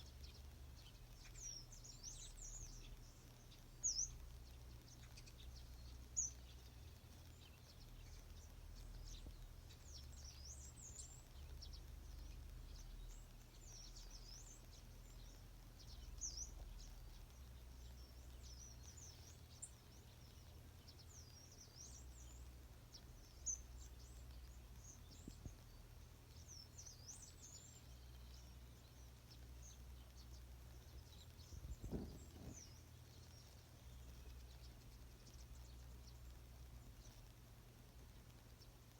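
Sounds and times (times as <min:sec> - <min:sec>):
faint low rumble: 0:00.0 - 0:38.9
small birds chirping: 0:00.0 - 0:38.9.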